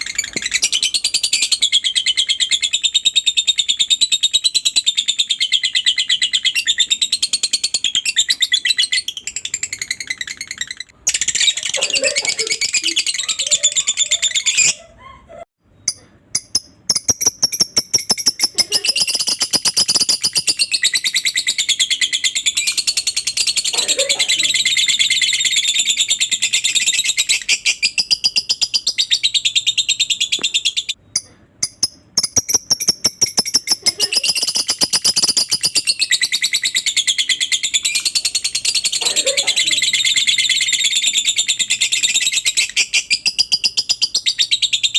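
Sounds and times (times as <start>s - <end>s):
lovebird chattering trill: 0.0s - 14.9s, 15.8s - 44.9s.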